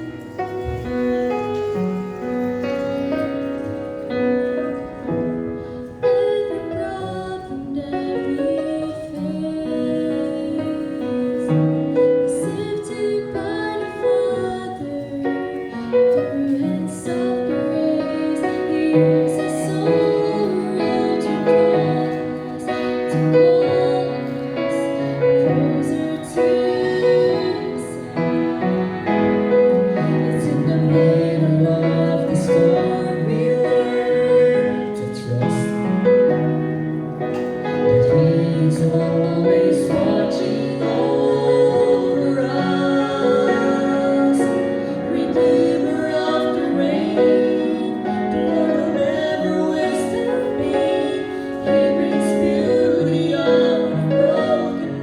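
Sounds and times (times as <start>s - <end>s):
piano accompaniment: 0.0s - 55.0s
woman singing gospel song: 6.0s - 35.8s, 37.9s - 55.0s.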